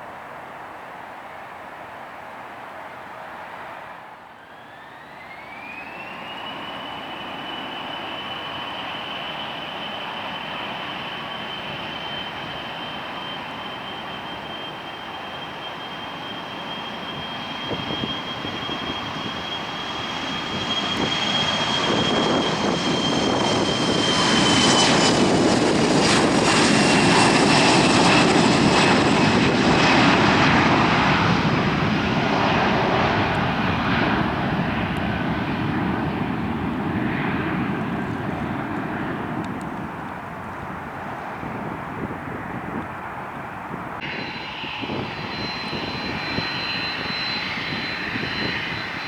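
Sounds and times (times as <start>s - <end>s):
jet passing at takeoff power: 2.8s - 49.0s.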